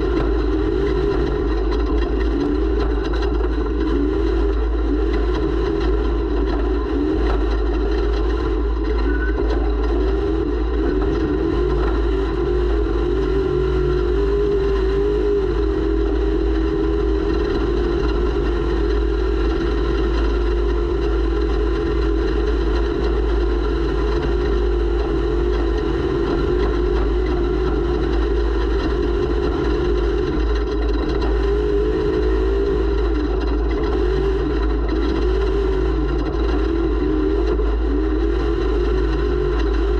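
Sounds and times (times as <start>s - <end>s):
race vehicle engine running hard: 0.0s - 39.9s.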